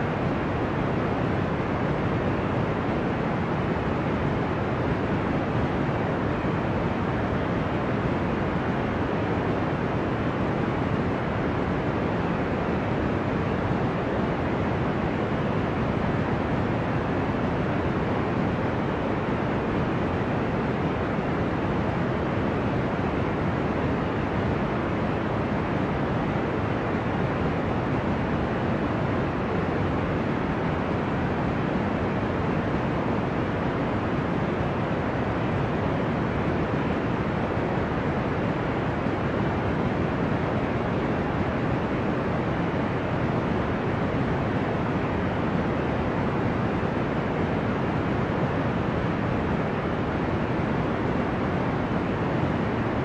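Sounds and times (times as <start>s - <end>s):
low ocean-like rushing noise: 0.0s - 53.0s.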